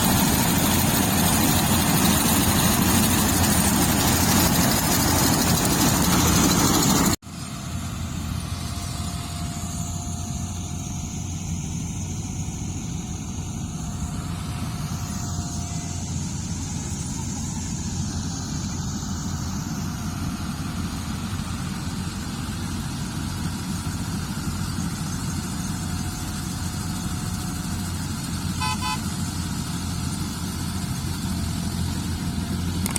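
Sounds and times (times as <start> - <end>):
machine engine running: 0.0 - 32.9
quieter engine with faint whine: 0.0 - 32.9.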